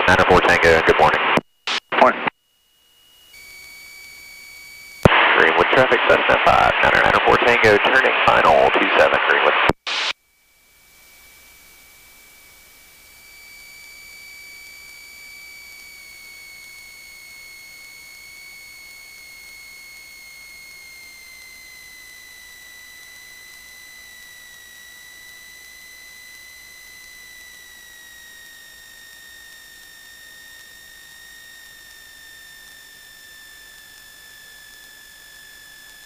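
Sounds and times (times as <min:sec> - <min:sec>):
high-pitched electrical whine: 0:00.0 - 0:36.0.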